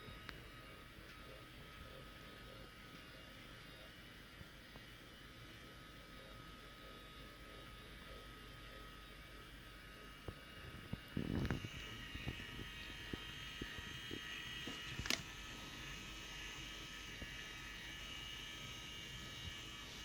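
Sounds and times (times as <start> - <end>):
small electric motor buzzing: 0.0 - 20.0.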